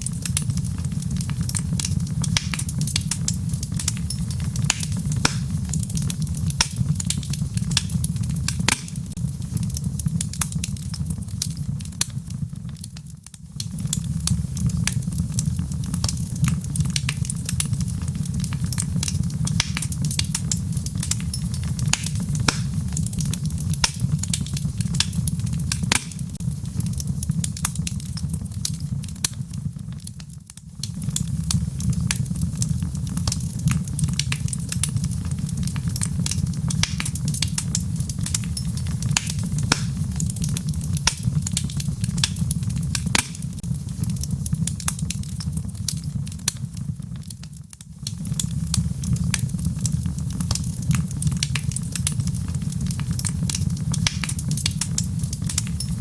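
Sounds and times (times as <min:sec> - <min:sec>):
burning wood crackling and popping: 0:00.0 - 0:56.0
flames rumbling in fireplace: 0:00.0 - 0:56.0.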